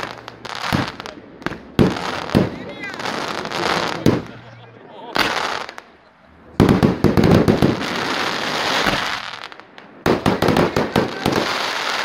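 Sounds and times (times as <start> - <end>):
sharp firework bangs: 0.0 - 4.4, 6.6 - 12.0
firework crackling: 0.0 - 6.0, 6.6 - 12.0.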